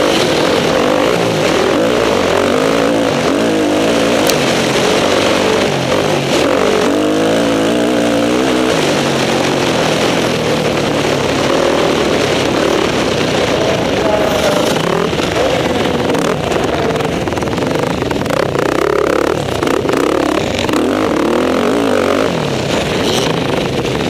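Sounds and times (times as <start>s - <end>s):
motocross bike engine revving: 0.0s - 24.0s
steady rush of noise: 0.0s - 24.0s.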